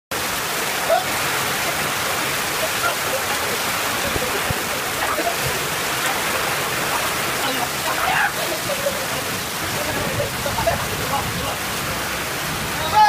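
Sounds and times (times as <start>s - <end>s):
heavy rain on pavement: 0.1s - 13.0s.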